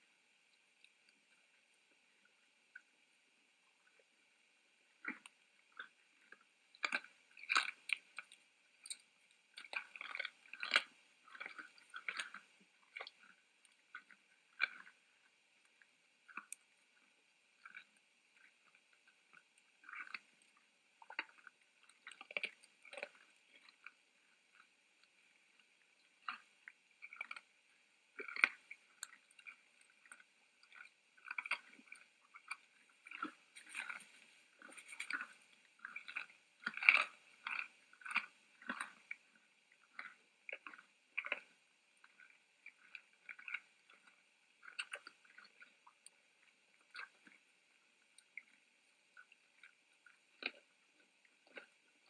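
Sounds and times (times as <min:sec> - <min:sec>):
deer crunching food: 0:05.0 - 0:27.5, 0:28.1 - 0:47.4, 0:48.1 - 0:51.8.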